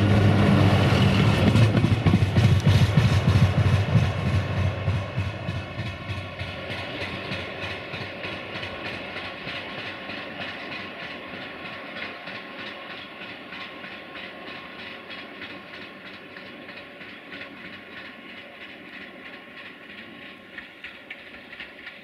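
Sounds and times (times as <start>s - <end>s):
train wheels clicking over rail joints: 0.2s - 22.0s.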